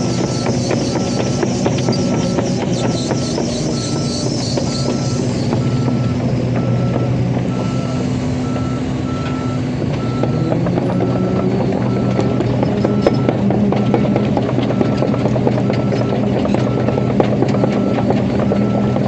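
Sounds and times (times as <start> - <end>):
diesel engine running: 0.0 - 19.0
machine reverse alarm beeping: 0.0 - 19.0.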